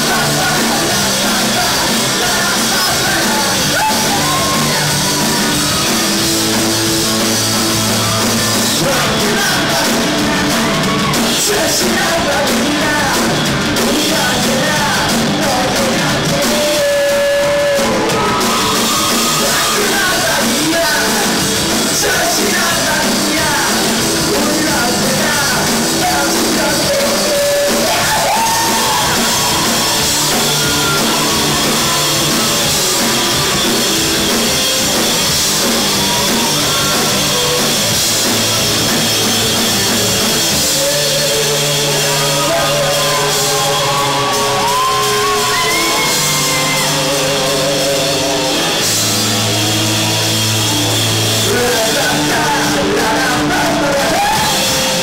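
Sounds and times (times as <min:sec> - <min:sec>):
man singing: 0:00.0 - 0:55.0
rock band playing: 0:00.0 - 0:55.0.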